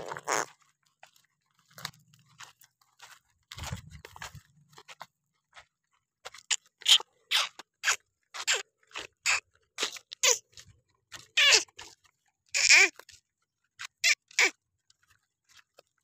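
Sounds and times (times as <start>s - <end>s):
footsteps crunching on gravel: 0.0s - 16.0s.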